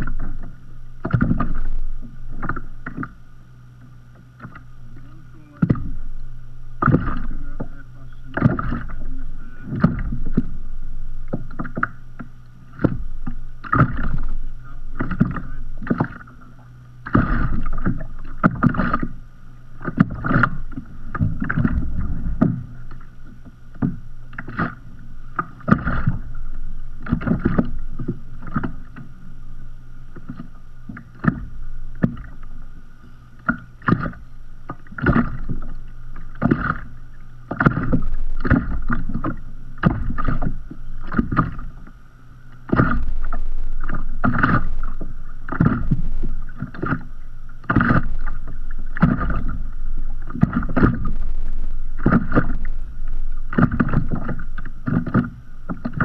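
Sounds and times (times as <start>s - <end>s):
water rushing: 0.0s - 56.0s
waves slapping kayak hull: 0.0s - 56.0s.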